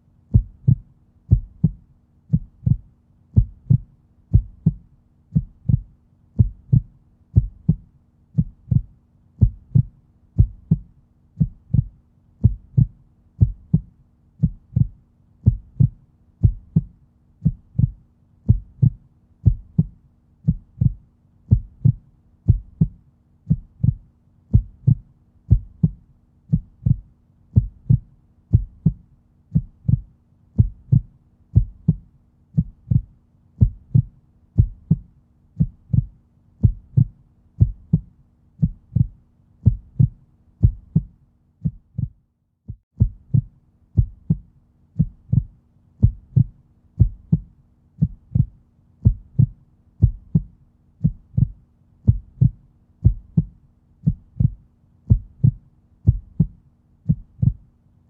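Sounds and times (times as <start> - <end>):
heartbeat thumping: 0.3 - 57.7.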